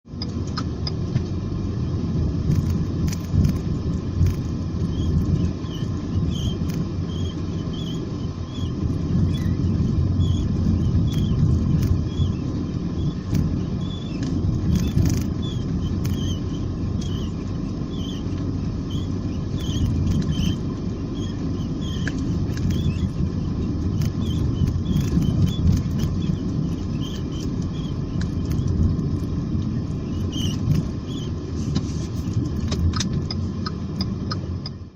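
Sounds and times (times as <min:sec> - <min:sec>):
low rumble: 0:00.1 - 0:34.9.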